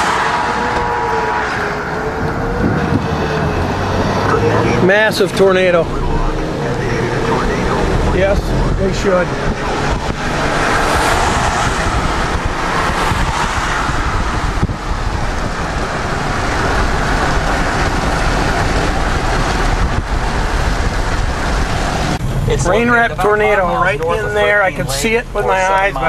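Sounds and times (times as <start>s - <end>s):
car road noise at highway speed: 0.0s - 26.0s
wind buffeting microphone: 0.5s - 22.6s.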